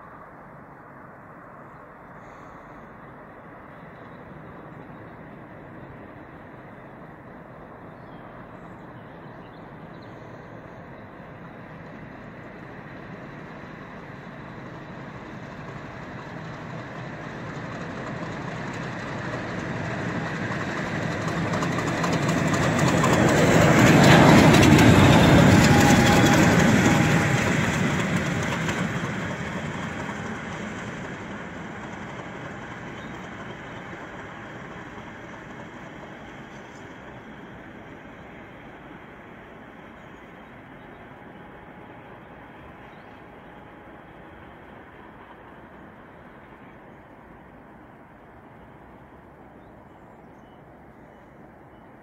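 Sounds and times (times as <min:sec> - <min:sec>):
diesel locomotive passing: 0:00.0 - 0:52.0.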